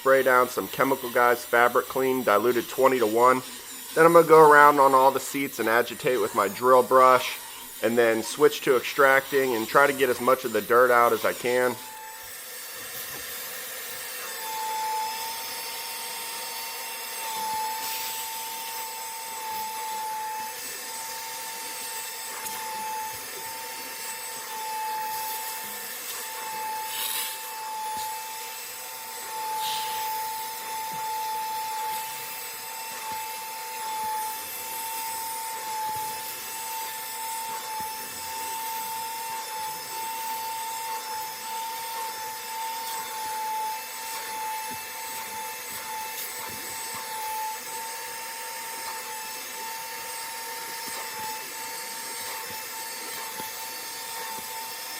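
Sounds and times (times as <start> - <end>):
electric cleaning motor whining: 0.0 - 54.9.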